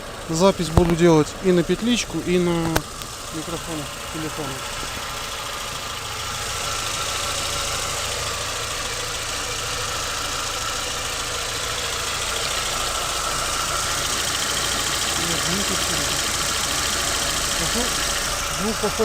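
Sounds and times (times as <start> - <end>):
petrol engine idling: 0.0 - 19.0.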